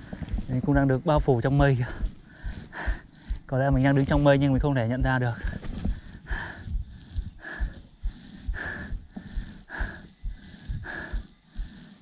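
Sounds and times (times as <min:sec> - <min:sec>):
low thumps: 0:00.0 - 0:11.8
person breathing hard: 0:00.0 - 0:12.0.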